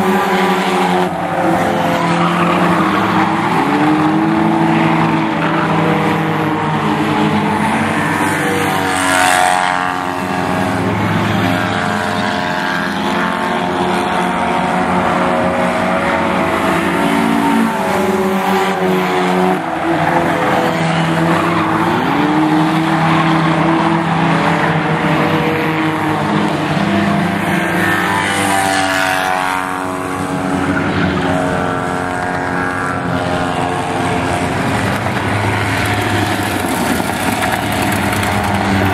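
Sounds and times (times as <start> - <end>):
race car engines droning: 0.0 - 38.9
race cars passing close by: 0.0 - 38.9.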